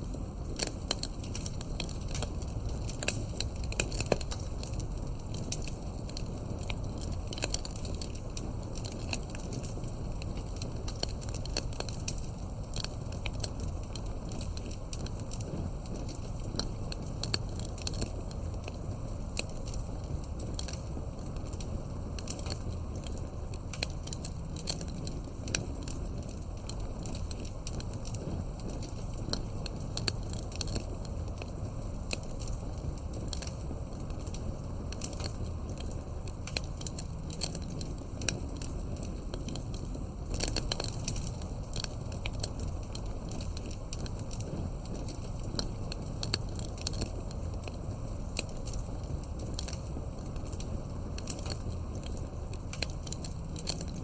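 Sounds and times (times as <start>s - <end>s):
campfire rumble and hiss: 0.0s - 54.0s
fire crackles and pops: 0.0s - 54.0s.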